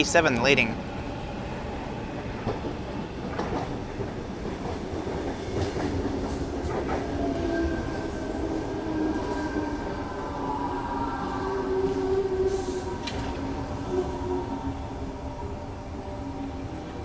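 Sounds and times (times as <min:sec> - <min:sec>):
train whine: 0:00.0 - 0:17.0.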